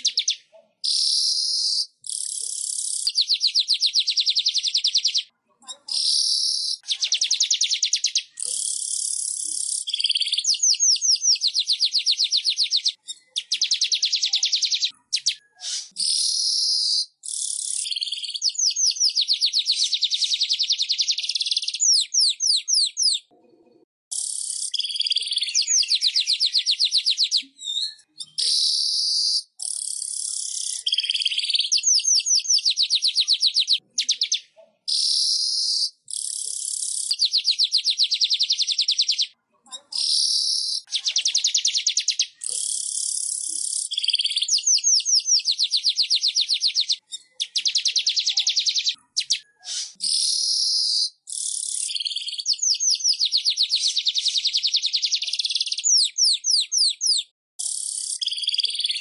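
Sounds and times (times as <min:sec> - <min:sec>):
bird rapid high-pitched trills: 0:00.0 - 0:05.3, 0:06.0 - 0:23.3, 0:24.1 - 0:39.4, 0:40.0 - 0:59.0
bird quick chirps: 0:00.0 - 0:23.3, 0:24.1 - 0:39.4, 0:40.0 - 0:59.0.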